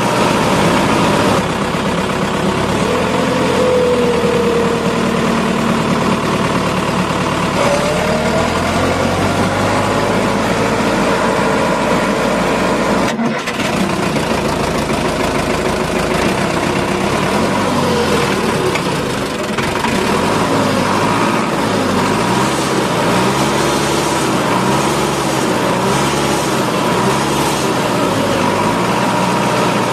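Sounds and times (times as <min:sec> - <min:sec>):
truck engine running: 0:00.0 - 0:29.9.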